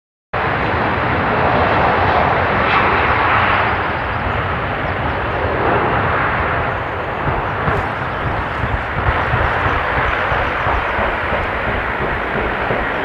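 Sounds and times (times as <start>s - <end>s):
jet engines roaring: 0.4s - 13.0s.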